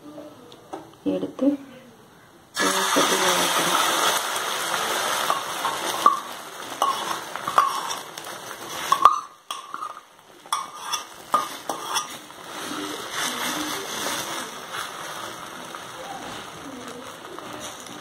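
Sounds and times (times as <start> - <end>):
batter sizzling on hot pan: 2.5 - 18.0.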